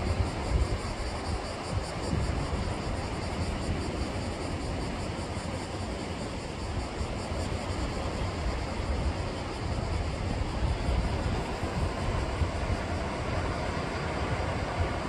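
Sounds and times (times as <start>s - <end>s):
sea waves washing: 0.0s - 15.0s
wind rumbling on microphone: 0.0s - 15.0s.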